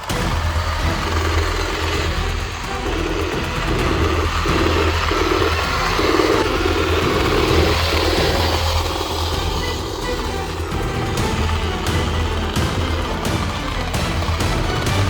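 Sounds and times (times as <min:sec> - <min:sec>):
electric motors and gears whirring: 0:00.0 - 0:15.0.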